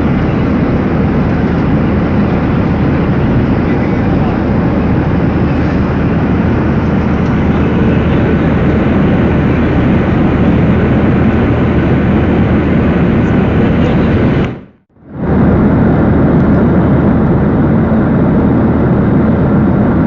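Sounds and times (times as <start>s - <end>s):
airliner engines and rushing air: 0.0s - 20.0s
faint steady hum: 0.0s - 20.0s.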